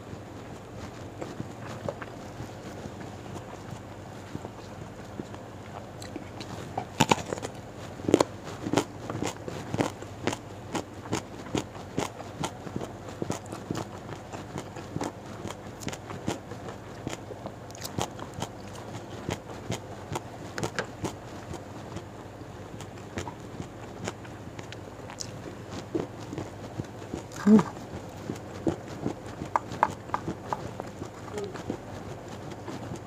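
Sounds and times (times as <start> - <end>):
chewing and crunching vegetables: 0.0 - 33.0.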